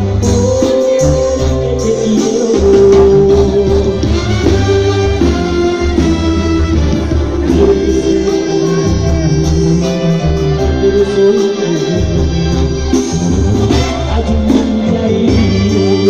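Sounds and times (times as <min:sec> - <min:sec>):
brass chords: 0:00.0 - 0:16.0
sousaphone bass line: 0:00.0 - 0:16.0.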